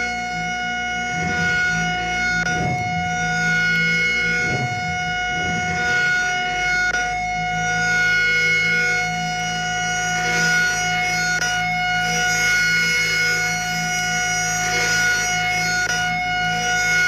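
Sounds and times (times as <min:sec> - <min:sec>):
tornado warning siren: 0:00.0 - 0:17.0.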